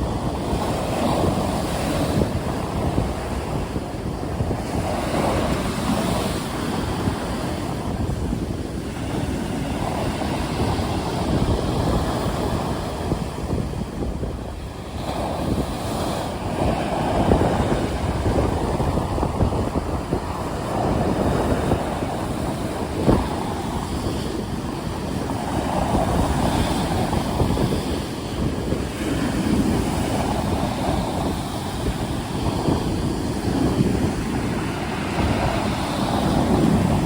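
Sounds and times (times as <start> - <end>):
sea waves breaking: 0.0 - 37.0
wind rumble on microphone: 0.0 - 37.0.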